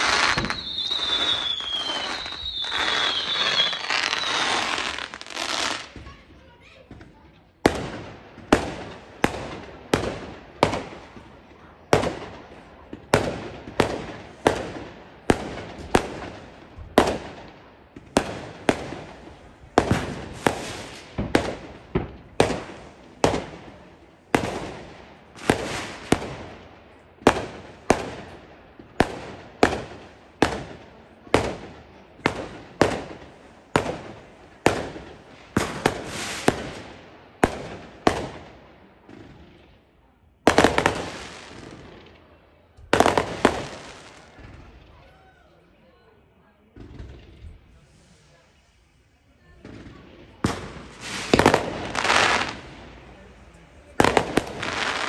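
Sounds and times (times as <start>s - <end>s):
fireworks bangs: 0.0s - 45.1s, 49.4s - 55.0s.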